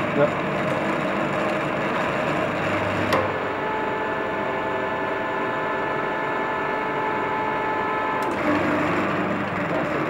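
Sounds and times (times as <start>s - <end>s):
drilling machine whine and hum: 0.0s - 10.0s.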